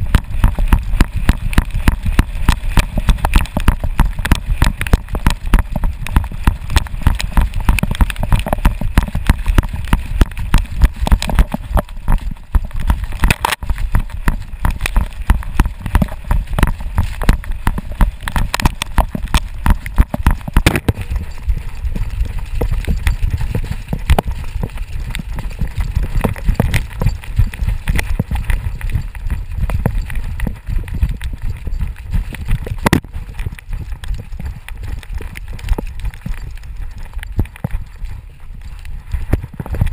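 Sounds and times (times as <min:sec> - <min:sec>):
low rumble: 0:00.0 - 0:39.9
running strides thumping camera: 0:00.0 - 0:39.9.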